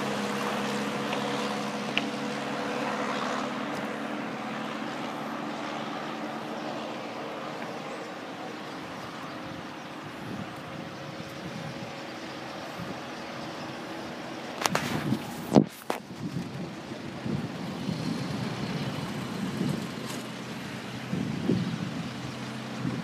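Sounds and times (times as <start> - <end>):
tyre and air rush: 0.0 - 23.0
vehicle engine humming: 0.0 - 23.0.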